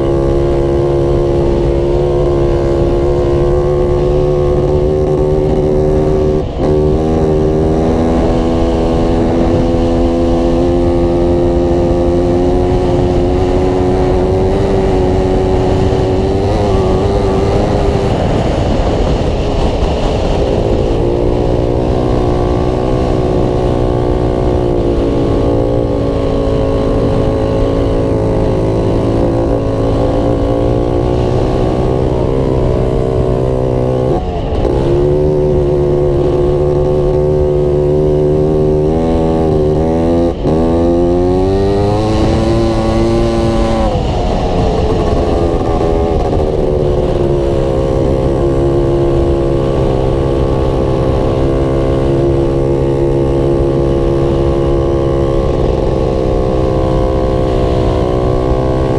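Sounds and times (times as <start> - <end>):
quad bike engine running: 0.0 - 58.9.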